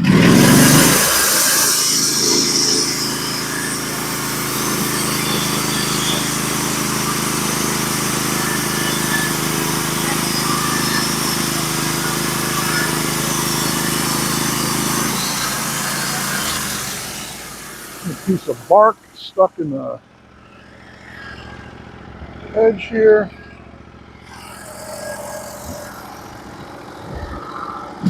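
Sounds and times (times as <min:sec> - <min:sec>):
bandsaw mill cutting log: 0:00.0 - 0:28.0.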